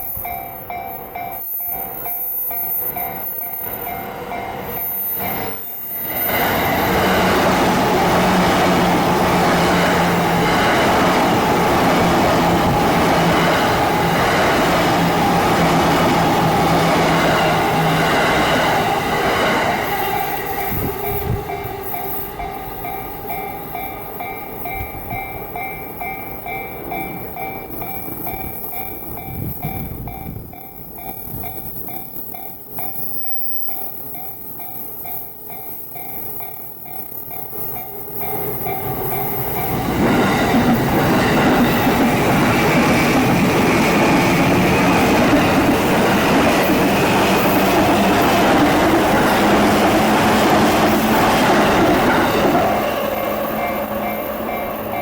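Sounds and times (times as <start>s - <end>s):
electric train passing: 0.0s - 55.0s
level crossing warning bell: 0.0s - 55.0s.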